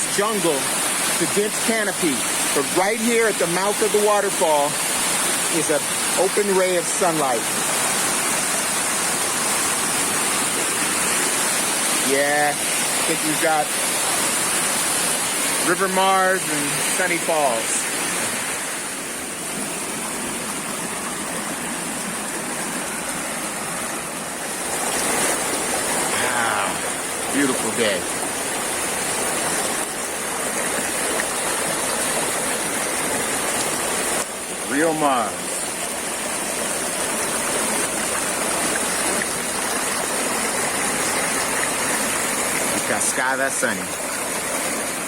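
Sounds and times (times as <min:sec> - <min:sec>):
waterfall rushing into pool: 0:00.0 - 0:45.0.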